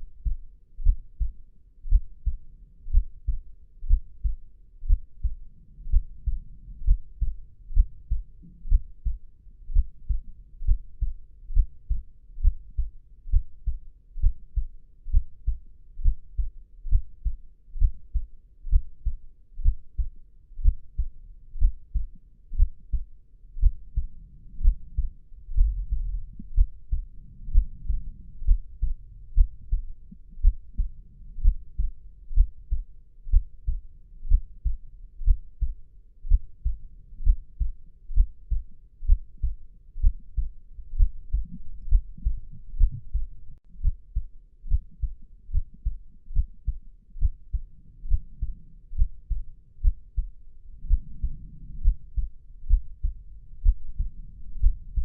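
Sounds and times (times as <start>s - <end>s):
heartbeat: 0.0s - 55.0s.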